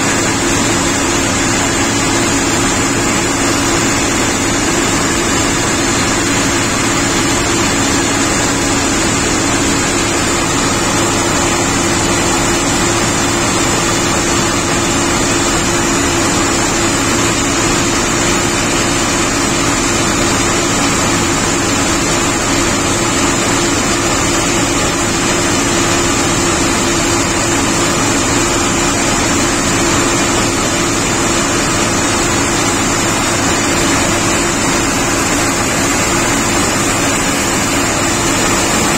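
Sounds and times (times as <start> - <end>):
combine harvester mechanical hum: 0.0 - 38.9
high mechanical whine: 0.0 - 38.9.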